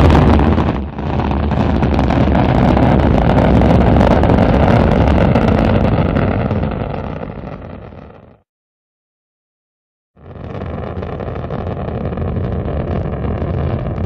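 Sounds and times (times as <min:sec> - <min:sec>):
rocket engine rumbling: 0:00.0 - 0:08.4, 0:10.2 - 0:14.0.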